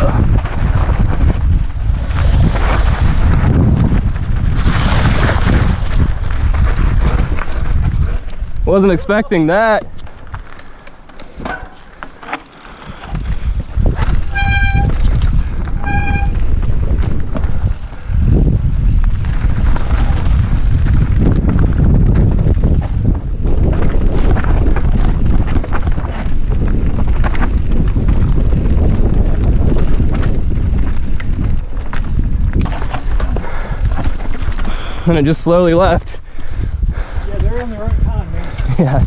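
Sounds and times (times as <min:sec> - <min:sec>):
wind buffeting microphone: 0:00.0 - 0:12.0, 0:12.6 - 0:39.0
bike rattling over rocks: 0:00.0 - 0:39.0.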